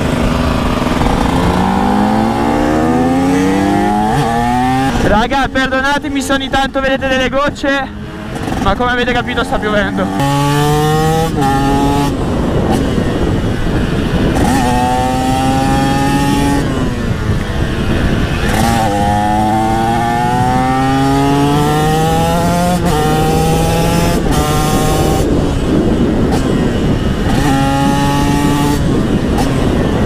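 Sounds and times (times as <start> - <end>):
motorcycle accelerating and shifting: 0.0 - 30.0
wind on microphone: 0.0 - 30.0.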